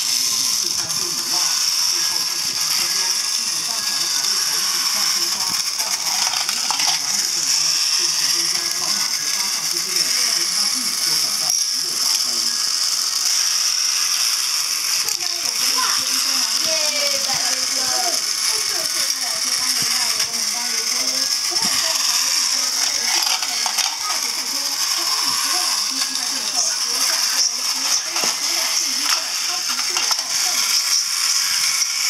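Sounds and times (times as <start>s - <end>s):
toy train motors whining: 0.0s - 32.0s.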